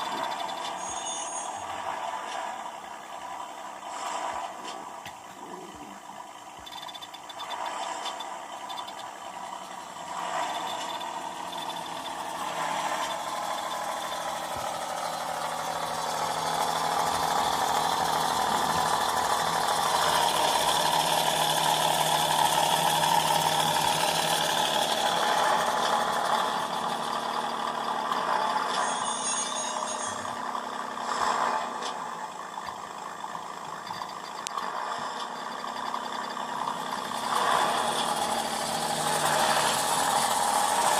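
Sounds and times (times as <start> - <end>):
model engine sound from speaker: 0.0 - 40.9.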